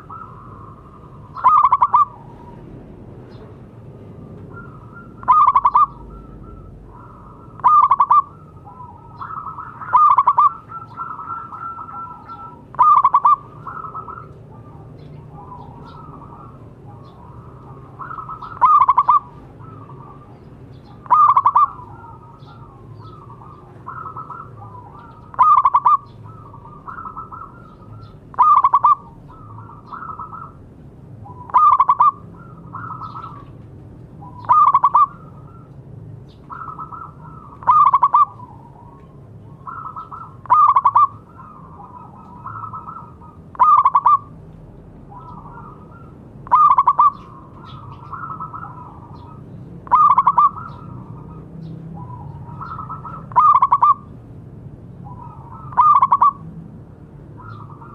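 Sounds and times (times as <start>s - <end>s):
doves cooing: 0.0s - 44.4s, 45.0s - 54.2s, 55.0s - 56.5s, 57.3s - 57.9s.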